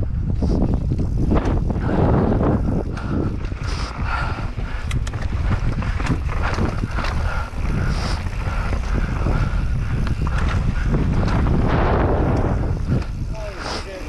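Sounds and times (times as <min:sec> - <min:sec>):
bike rattling and knocking: 0:00.0 - 0:14.0
wind buffeting microphone: 0:00.0 - 0:14.0
tyres rumbling on dirt and rock: 0:00.5 - 0:14.0.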